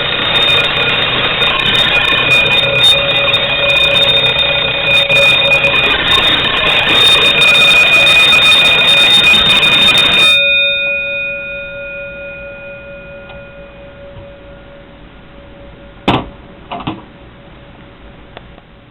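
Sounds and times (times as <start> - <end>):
fire alarm bell ringing: 0.0 - 18.3.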